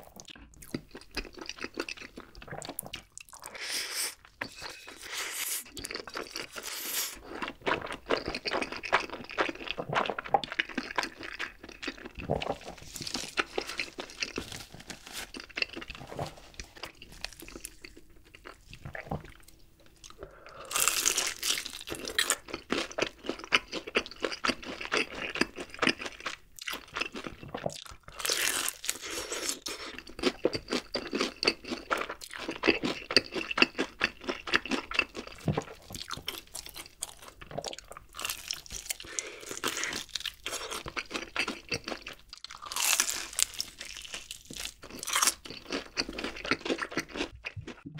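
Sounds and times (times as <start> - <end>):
crunchy fried chicken chewing: 0.0 - 3.5, 5.6 - 47.9.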